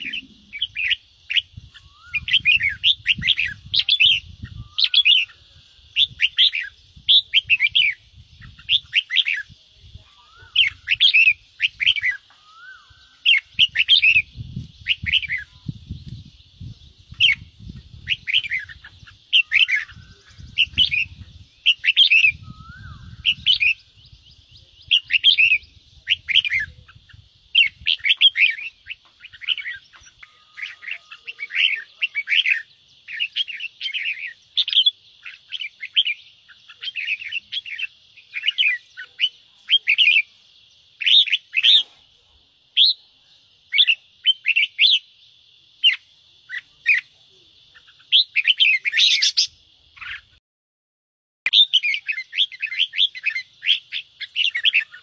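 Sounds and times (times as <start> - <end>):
birds chirping and chattering: 0.0 - 50.4, 51.5 - 55.0.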